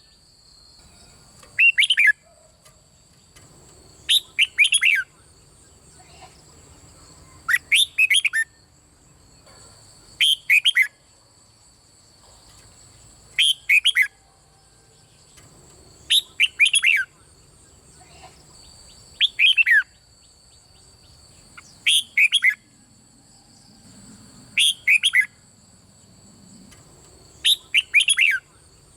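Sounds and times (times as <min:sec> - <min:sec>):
bulbul singing: 0:00.8 - 0:11.1, 0:12.2 - 0:22.8, 0:24.5 - 0:25.4, 0:26.5 - 0:28.9.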